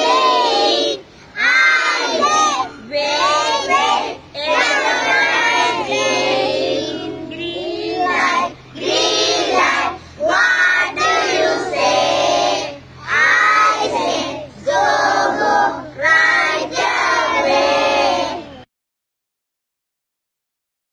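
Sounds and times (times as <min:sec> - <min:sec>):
young children singing: 0:00.0 - 0:18.7.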